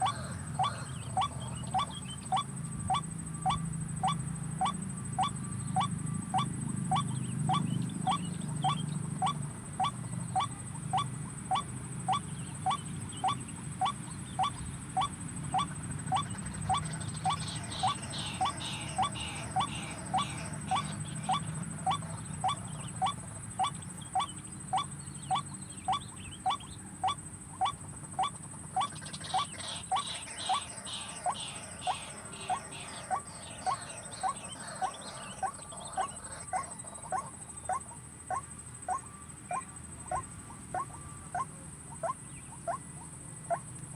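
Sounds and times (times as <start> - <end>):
bird calling repeated note: 0.0 - 42.8.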